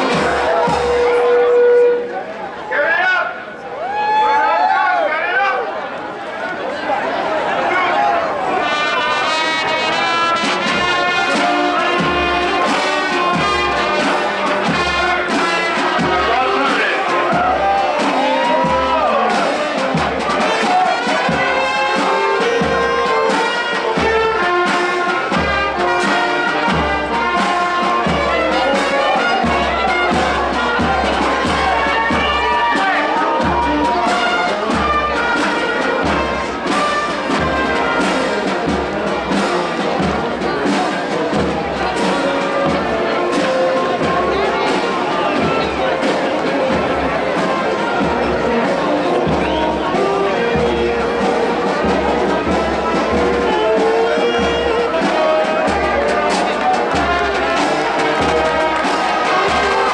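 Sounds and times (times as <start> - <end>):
brass band playing: 0.0 - 5.8, 7.0 - 59.9.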